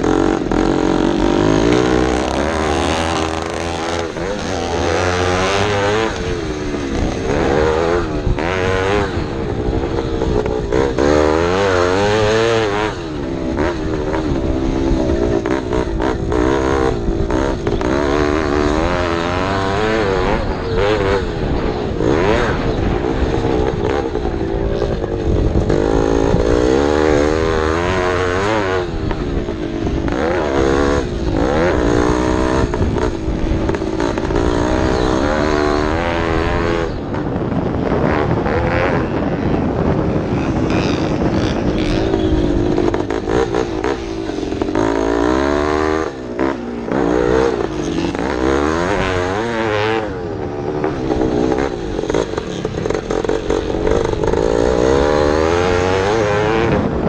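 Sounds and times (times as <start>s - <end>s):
racing motorcycle engine revving: 0.0s - 57.0s.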